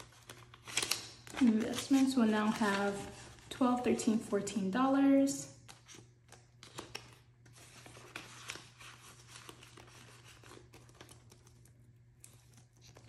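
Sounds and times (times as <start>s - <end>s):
paper banknotes rustling: 0.0s - 4.7s, 5.7s - 11.8s.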